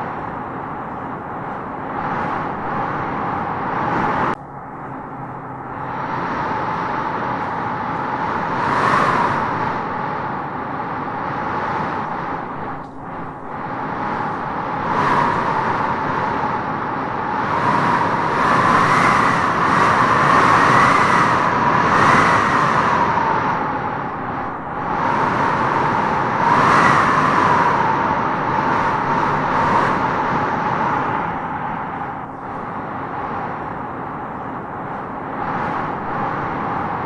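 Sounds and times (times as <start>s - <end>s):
wind blowing in gusts: 0.0s - 37.0s.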